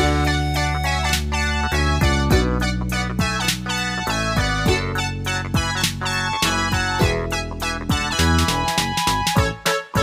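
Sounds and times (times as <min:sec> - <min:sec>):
sustained bass: 0:00.0 - 0:09.6
upbeat keyboard tune: 0:00.0 - 0:10.0.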